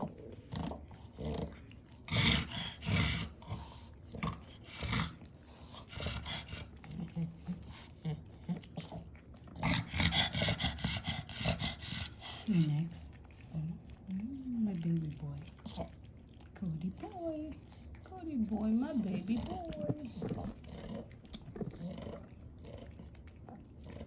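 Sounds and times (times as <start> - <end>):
pet chewing and crunching: 0.0 - 24.0.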